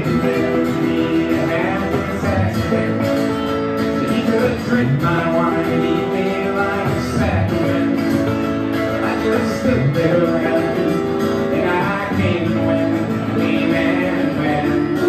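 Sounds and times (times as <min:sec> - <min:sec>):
electric guitar: 0:00.0 - 0:15.0
strummed acoustic guitar: 0:00.0 - 0:15.0.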